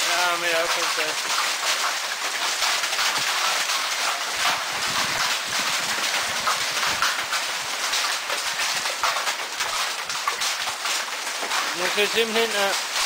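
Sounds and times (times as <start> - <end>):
hail clattering on leaves: 0.0 - 13.0.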